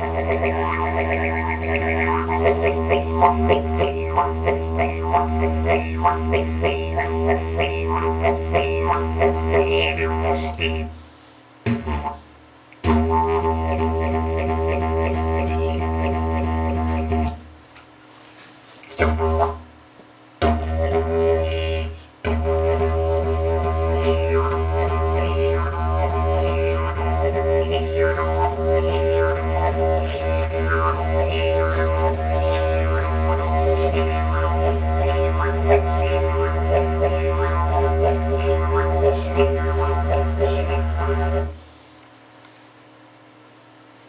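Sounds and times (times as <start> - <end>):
didgeridoo drone: 0.0 - 17.6, 18.8 - 19.8, 20.4 - 41.8.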